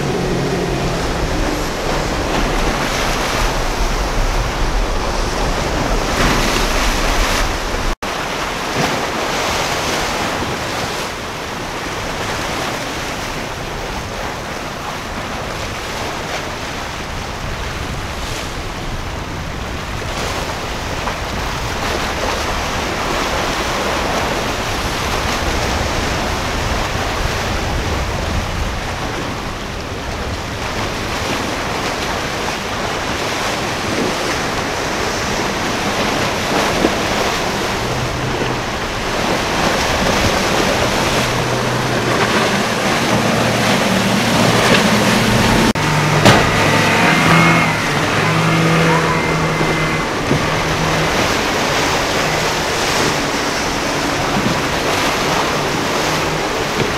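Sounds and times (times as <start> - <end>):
waves washing: 0.0 - 56.9
wind noise on microphone: 0.0 - 56.9.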